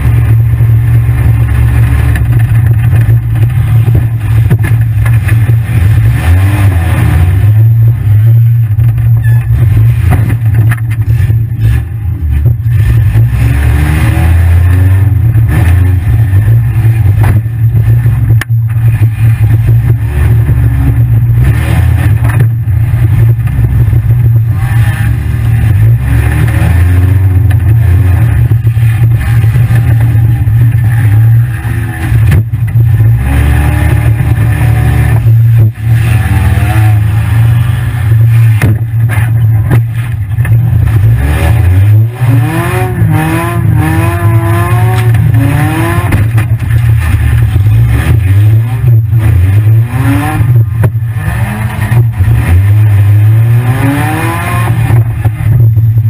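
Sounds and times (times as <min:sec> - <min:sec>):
car engine revving loud: 0:00.0 - 0:56.0.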